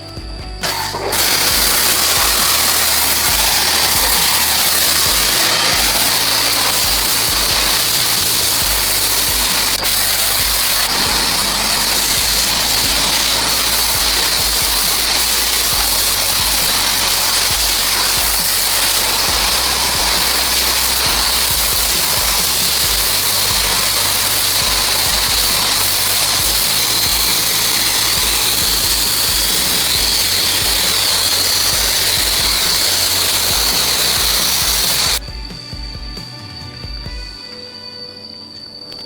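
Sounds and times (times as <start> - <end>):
background music: 0.0 - 39.0
loud hissing rush: 0.0 - 39.0.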